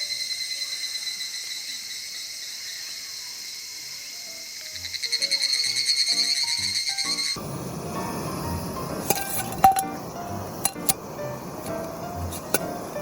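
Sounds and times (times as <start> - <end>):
cicada pulsing trill: 0.0 - 13.0
cicadas high ringing: 0.0 - 13.0.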